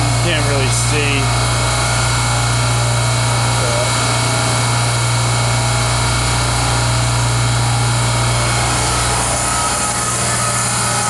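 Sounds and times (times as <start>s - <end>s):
refrigeration compressor humming: 0.0s - 11.0s.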